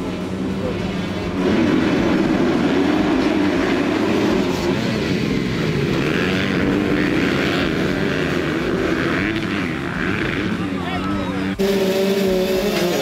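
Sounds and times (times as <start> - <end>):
motocross bikes revving hard: 0.0 - 13.0.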